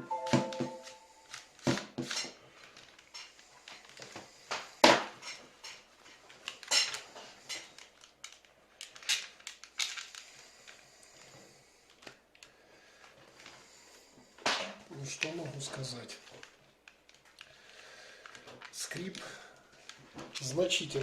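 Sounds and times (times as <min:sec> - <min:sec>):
headphones plastic clicks and creaks: 0:01.3 - 0:13.6, 0:14.9 - 0:21.0.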